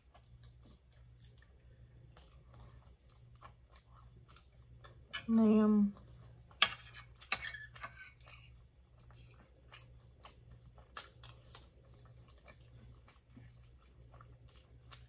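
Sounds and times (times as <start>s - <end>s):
wet chewing: 0.0s - 5.1s, 6.0s - 15.0s.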